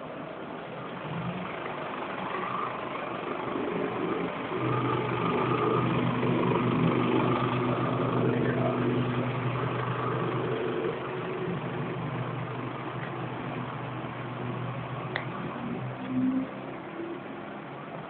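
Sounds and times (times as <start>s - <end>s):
motorcycle engine idling: 0.9s - 15.8s.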